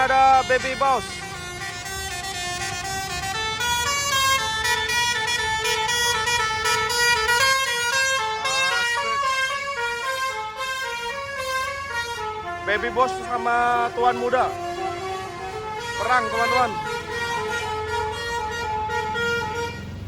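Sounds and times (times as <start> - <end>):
multi-trumpet air horn tune: 0.0 - 20.0.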